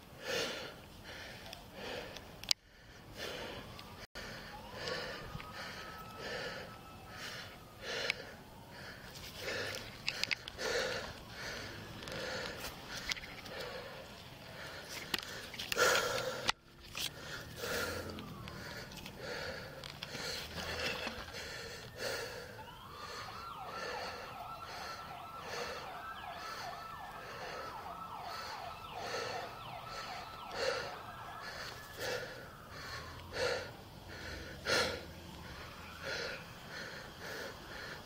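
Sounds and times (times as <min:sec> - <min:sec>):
emergency vehicle siren: 0:00.0 - 0:38.0
person breathing hard: 0:00.0 - 0:38.0.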